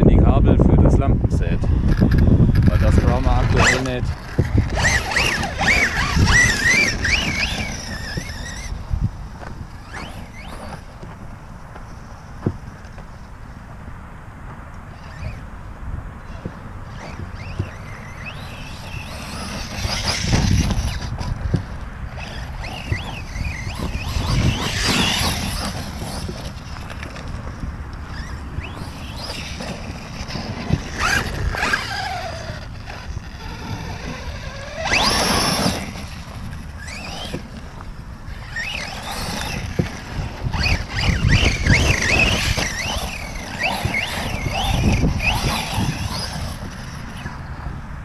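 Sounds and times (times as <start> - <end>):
electric motor whining: 1.6 - 13.1, 16.2 - 47.8
tyres crunching on gravel: 1.9 - 13.2, 16.3 - 47.4.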